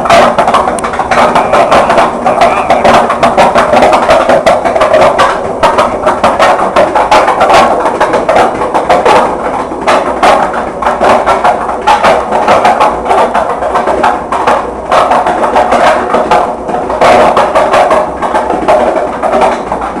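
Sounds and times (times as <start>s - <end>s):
washing machine clattering: 0.0s - 20.0s.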